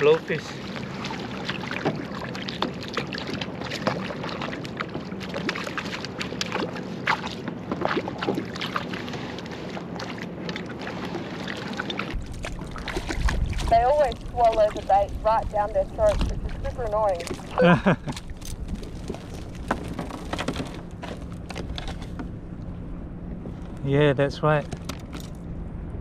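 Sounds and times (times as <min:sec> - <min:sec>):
water lapping around kayak hull: 0:00.0 - 0:25.9.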